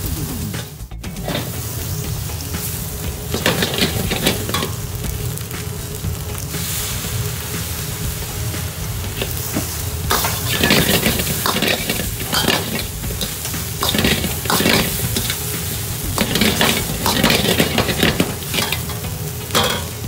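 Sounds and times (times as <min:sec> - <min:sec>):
rice sizzling in a wok: 0:00.0 - 0:20.0
metal ladle scraping wok: 0:00.1 - 0:05.5, 0:09.0 - 0:20.0.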